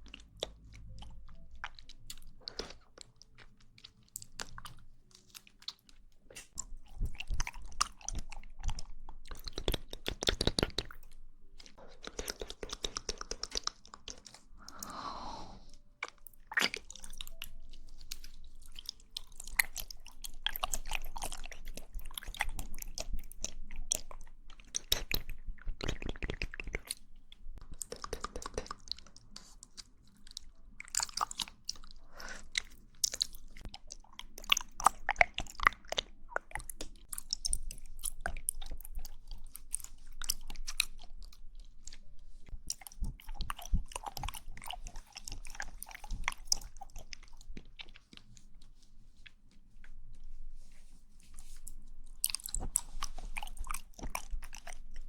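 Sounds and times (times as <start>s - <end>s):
mouth clicks while chewing: 0.0s - 15.0s, 15.7s - 50.0s, 51.4s - 55.0s.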